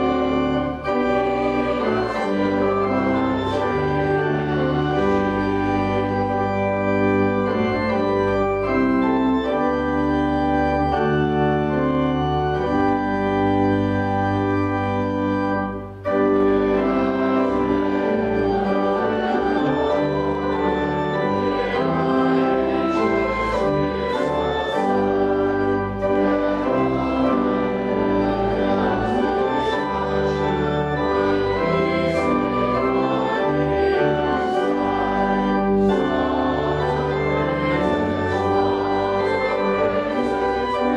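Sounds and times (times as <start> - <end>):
organ music: 0.0 - 40.9.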